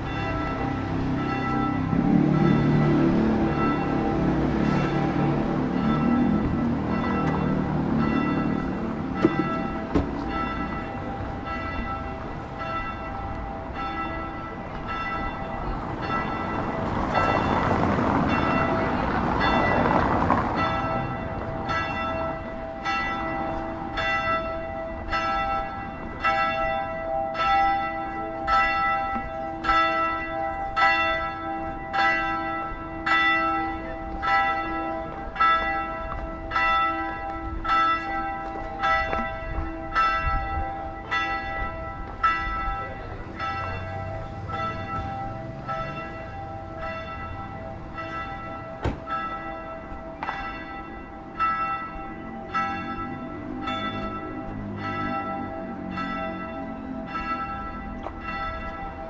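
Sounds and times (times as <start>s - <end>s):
church bell tolling: 0.0s - 59.0s.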